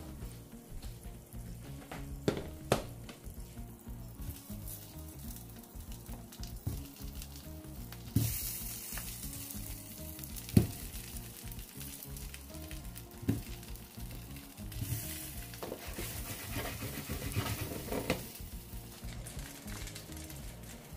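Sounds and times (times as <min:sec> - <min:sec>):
corn sizzling in butter: 0:00.0 - 0:20.9
corn cobs knocking in pan: 0:00.7 - 0:03.4, 0:04.3 - 0:20.9.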